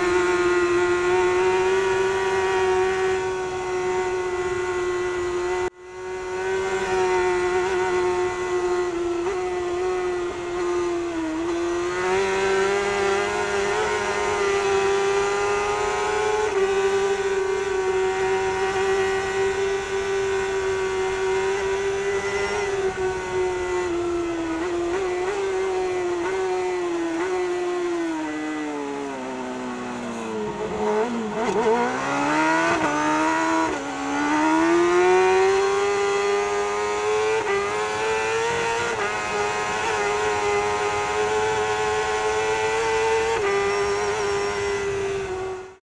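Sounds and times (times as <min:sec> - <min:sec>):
motorcycle engine at high revs: 0:00.0 - 0:45.8.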